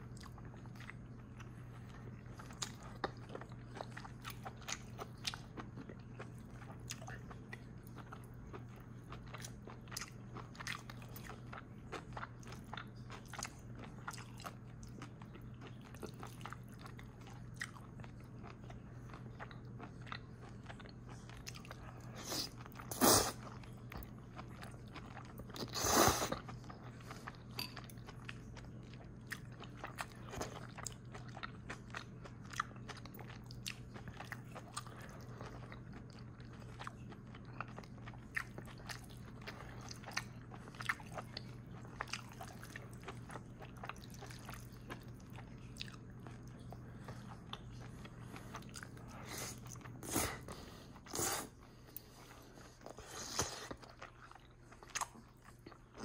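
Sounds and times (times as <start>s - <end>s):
person chewing food: 0.0s - 56.0s
steady low hum: 0.0s - 56.0s.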